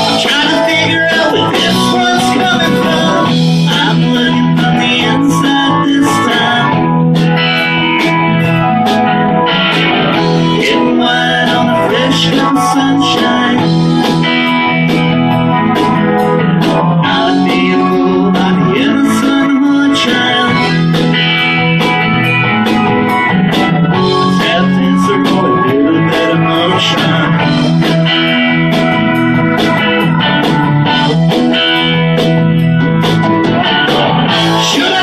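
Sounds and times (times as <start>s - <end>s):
bass guitar: 0.0s - 35.0s
drum kit steady beat: 0.0s - 35.0s
electric guitars: 0.0s - 35.0s
keyboard: 0.0s - 35.0s.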